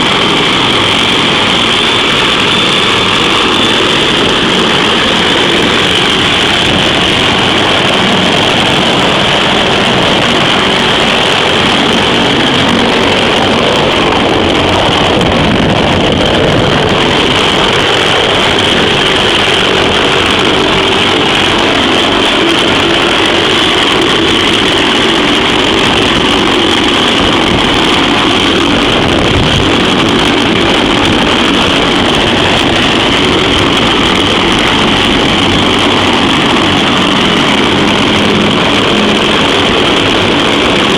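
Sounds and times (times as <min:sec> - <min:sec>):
helicopter engines and rotors: 0:00.0 - 0:40.9
high turbine whine: 0:00.0 - 0:40.9.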